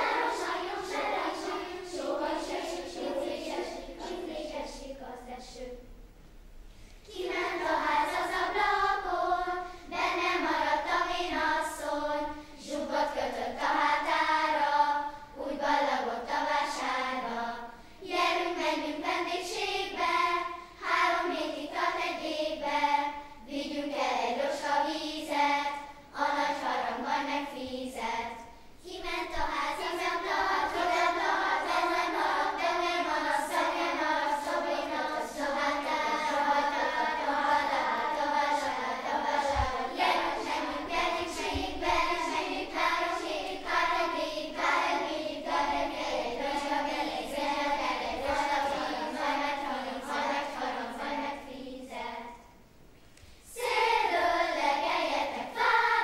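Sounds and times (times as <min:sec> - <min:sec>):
children's choir singing folk song: 0:00.0 - 0:06.0, 0:06.8 - 0:56.0.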